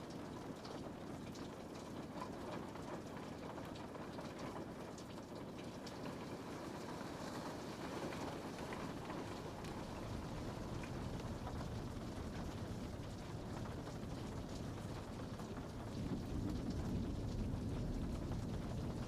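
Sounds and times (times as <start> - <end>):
raindrops tapping on window: 0.0 - 19.0
steady rain: 0.0 - 19.0.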